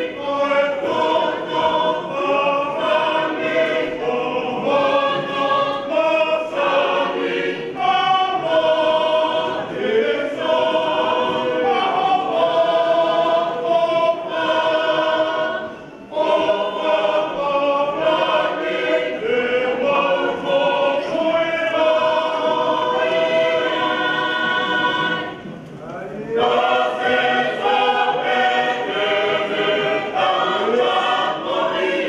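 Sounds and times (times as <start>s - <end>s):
choir singing a hymn: 0.0s - 25.6s, 26.3s - 32.0s.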